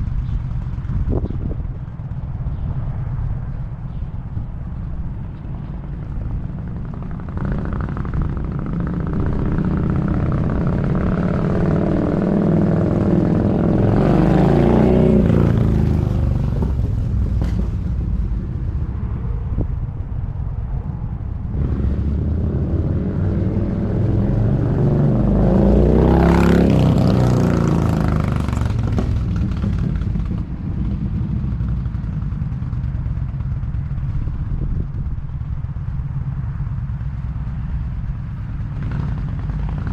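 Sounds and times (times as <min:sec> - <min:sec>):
motorcycle riding past: 0:04.4 - 0:39.9.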